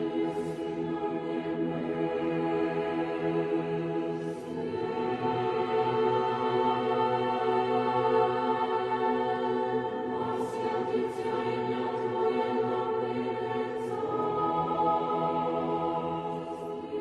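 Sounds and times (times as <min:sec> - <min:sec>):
eerie droning choir-like music: 0:00.0 - 0:17.0.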